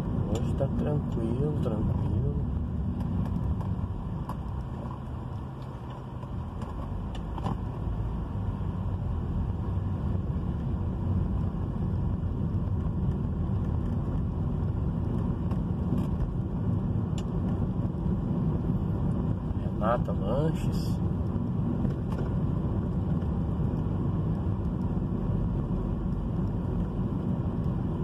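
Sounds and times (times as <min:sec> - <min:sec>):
car engine rumble: 0:00.0 - 0:28.0
tyre road noise: 0:00.0 - 0:28.0.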